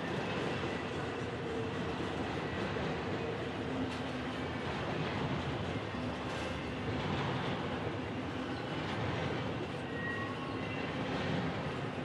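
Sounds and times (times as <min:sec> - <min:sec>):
train rumbling and clattering: 0:00.0 - 0:12.0.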